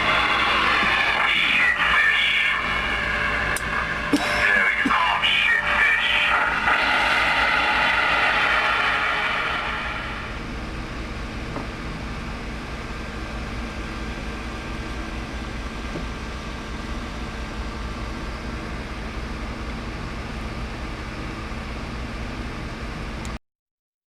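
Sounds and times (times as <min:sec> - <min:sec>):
low electrical hum: 0:00.0 - 0:23.4.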